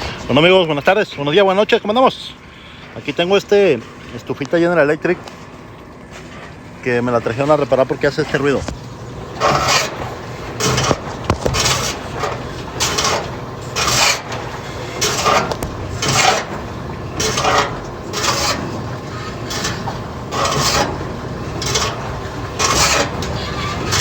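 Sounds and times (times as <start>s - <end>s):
washing machine scraping: 0.0s - 2.2s, 2.9s - 24.0s.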